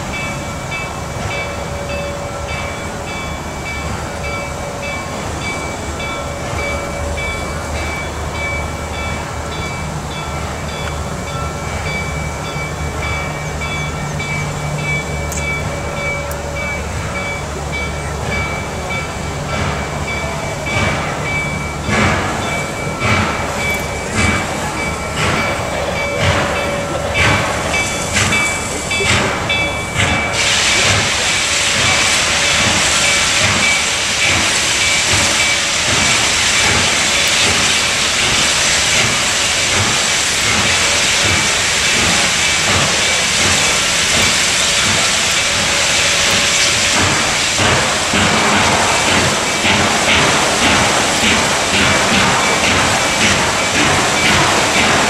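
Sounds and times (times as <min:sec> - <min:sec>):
locomotive bell ringing: 0:00.0 - 0:55.0
loud steam hiss: 0:00.0 - 0:55.0
steam locomotive exhaust beats: 0:00.0 - 0:55.0.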